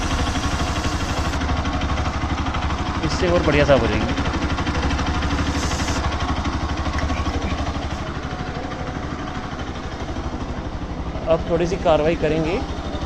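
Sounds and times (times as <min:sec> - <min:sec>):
engine running with rapid pulse: 0:00.0 - 0:13.0.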